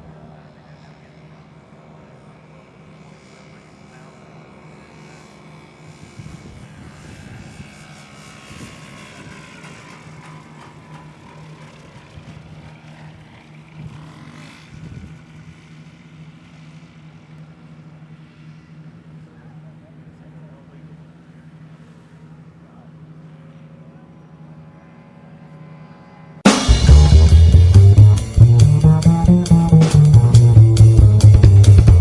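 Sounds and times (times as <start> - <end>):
light aircraft engine droning: 0.0 - 32.0.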